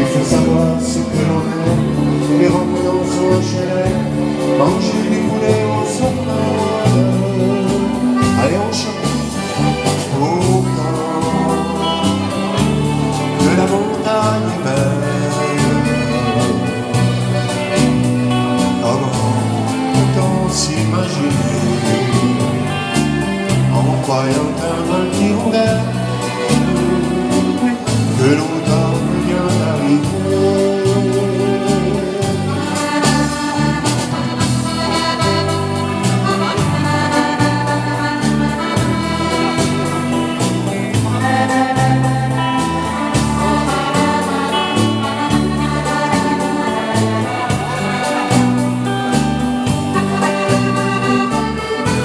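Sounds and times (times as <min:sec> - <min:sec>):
live dance band music: 0:00.0 - 0:52.0.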